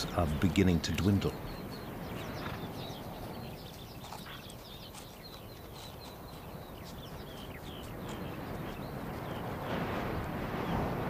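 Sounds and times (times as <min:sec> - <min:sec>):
low steady background noise: 0:00.0 - 0:10.8
small birds chirping: 0:00.0 - 0:11.0.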